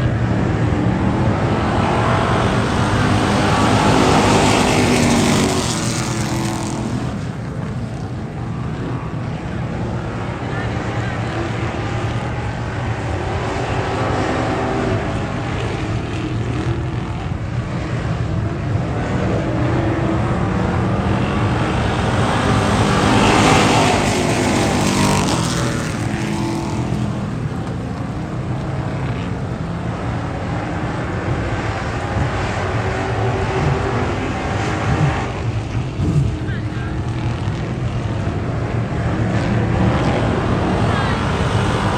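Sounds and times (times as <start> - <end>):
race car engines: 0.0 - 41.9.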